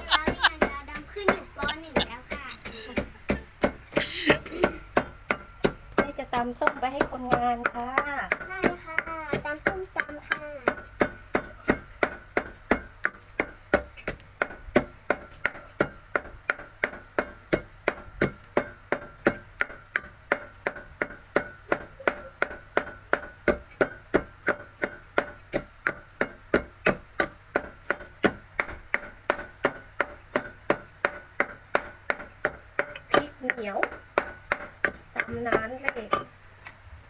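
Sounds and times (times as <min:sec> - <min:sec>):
wooden pestle pounding in mortar: 0:00.0 - 0:36.3.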